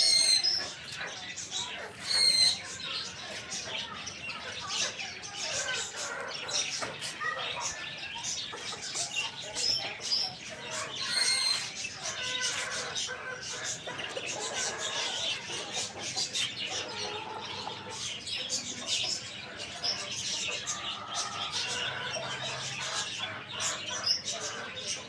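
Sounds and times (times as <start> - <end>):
chickens clucking: 0.0 - 25.0
small birds chirping: 0.0 - 25.0.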